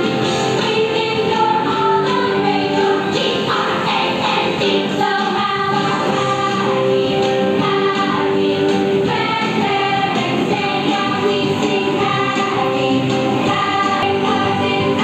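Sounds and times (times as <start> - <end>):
song with singing and music: 0.0 - 15.0.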